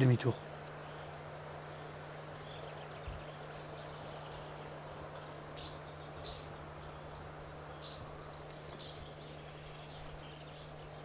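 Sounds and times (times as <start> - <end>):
low hum: 0.0 - 11.0
soft hiss: 0.0 - 11.0
high bird chirps: 2.2 - 11.0.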